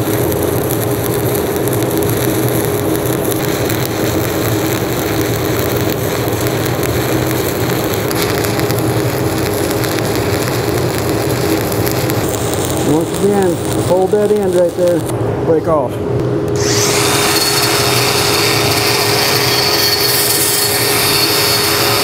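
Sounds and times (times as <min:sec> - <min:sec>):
steady low hum: 0:00.0 - 0:22.0
welding arc crackling: 0:00.0 - 0:22.0.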